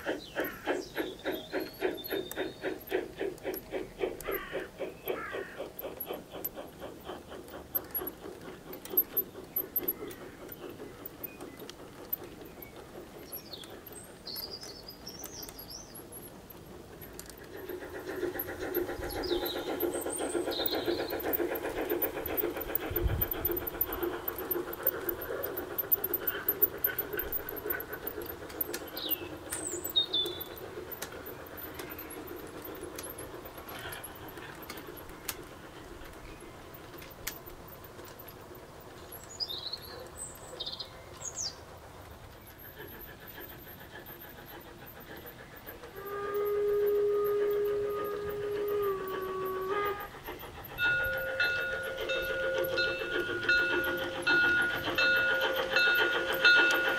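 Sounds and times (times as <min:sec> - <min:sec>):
birds chirping: 0:00.0 - 0:37.5, 0:47.5 - 0:56.9
model train clattering on track: 0:00.0 - 0:56.9.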